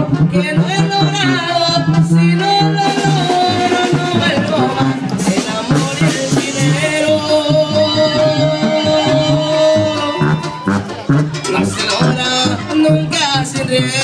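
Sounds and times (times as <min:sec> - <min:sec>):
alternating bass line: 0:00.0 - 0:14.0
drums: 0:00.0 - 0:14.0
live band playing instrumental: 0:00.0 - 0:14.0.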